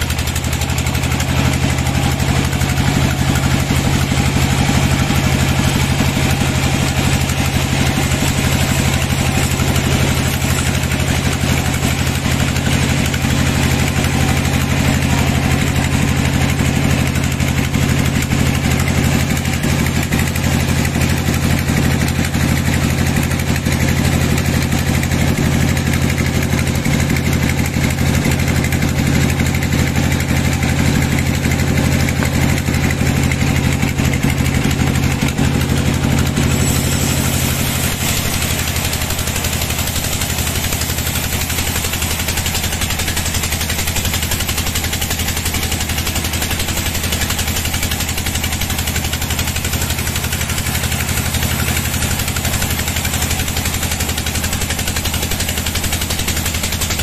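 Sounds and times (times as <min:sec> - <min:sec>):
band saw running: 0:00.0 - 0:57.0.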